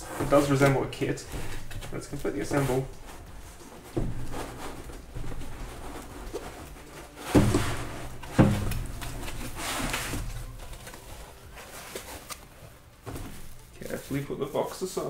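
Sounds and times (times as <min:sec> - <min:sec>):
dull thumps: 0:00.0 - 0:12.1, 0:13.0 - 0:14.4
foam and cardboard scraping: 0:00.0 - 0:15.0.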